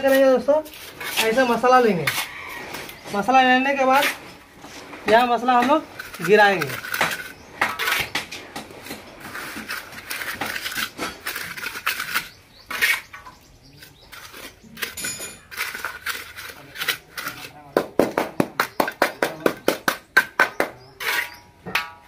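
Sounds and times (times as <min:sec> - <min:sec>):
trowel scraping mortar on concrete: 0:00.0 - 0:21.9.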